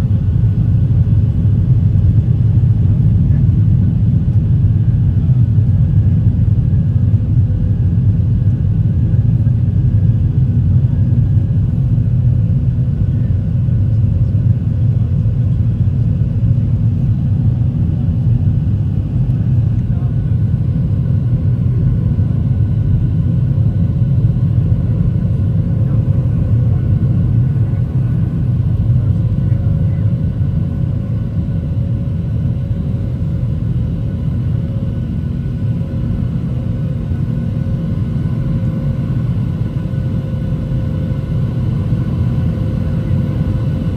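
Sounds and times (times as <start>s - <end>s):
aircraft cabin engine rumble: 0.0s - 43.9s.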